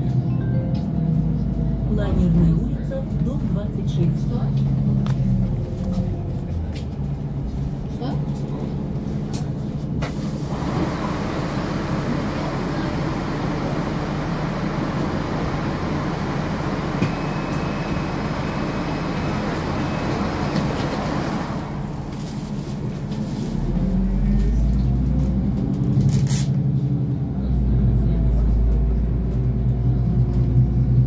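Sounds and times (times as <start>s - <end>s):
bus engine humming: 0.0s - 31.0s
road and traffic noise: 0.0s - 31.0s.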